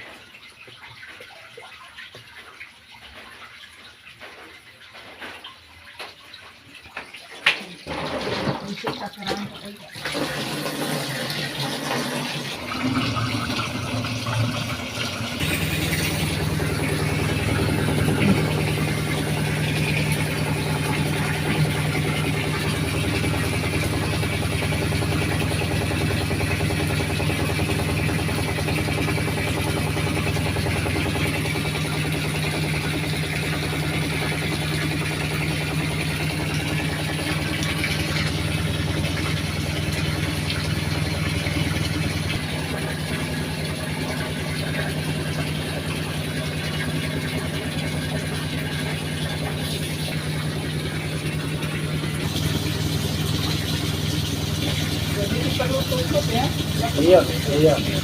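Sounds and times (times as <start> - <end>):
washing machine motor humming: 0.0 - 58.0.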